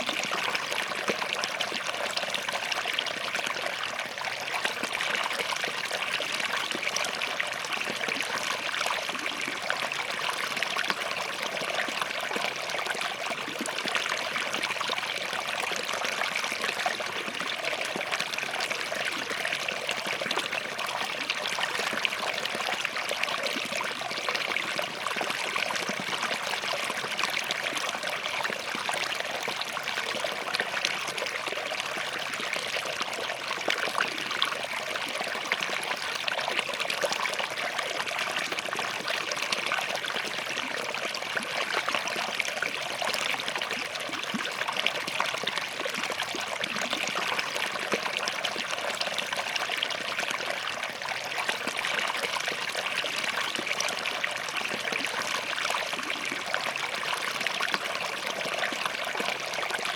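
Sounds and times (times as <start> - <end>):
stream trickling between rocks: 0.0 - 59.9.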